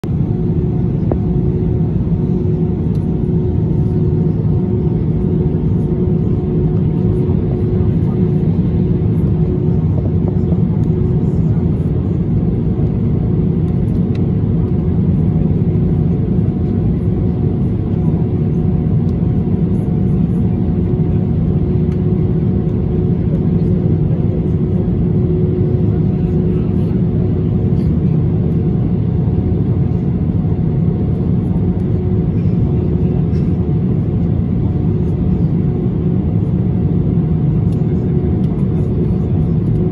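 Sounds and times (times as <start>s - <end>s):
constant cabin hum: 0.0s - 39.9s
jet engines rumbling: 0.0s - 39.9s.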